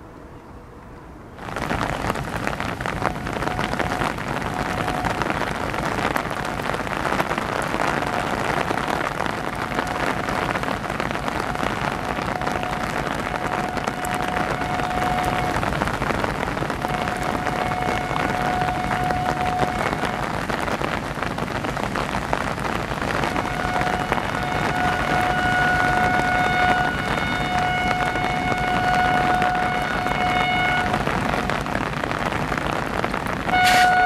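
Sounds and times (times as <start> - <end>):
heavy rain hiss: 1.3 - 34.0.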